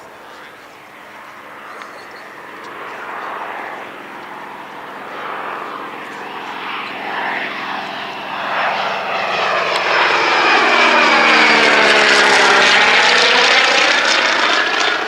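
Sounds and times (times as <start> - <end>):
propeller airplane engine: 0.0 - 15.0.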